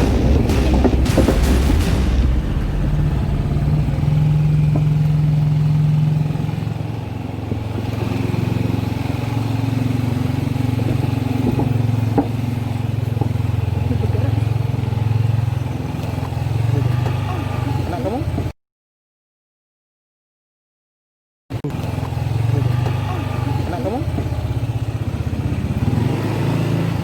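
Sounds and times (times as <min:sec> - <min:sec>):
motorcycle engine running: 0:00.0 - 0:18.5, 0:21.6 - 0:27.0.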